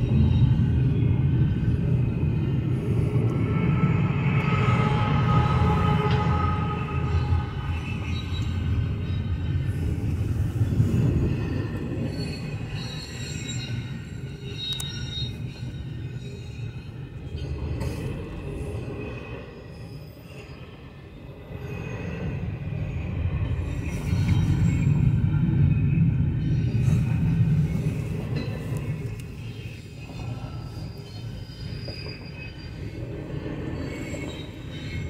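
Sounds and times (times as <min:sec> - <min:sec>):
high wheel squeal: 0:00.0 - 0:25.1, 0:25.7 - 0:35.0
train rolling rumble: 0:00.0 - 0:35.0.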